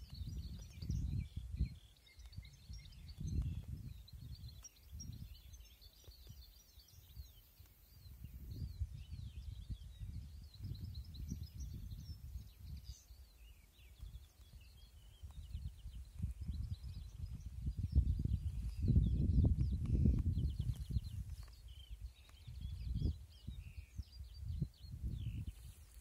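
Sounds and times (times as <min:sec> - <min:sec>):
songbirds chirping and singing: 0:00.0 - 0:26.0
wind gusts on microphone: 0:00.0 - 0:26.0.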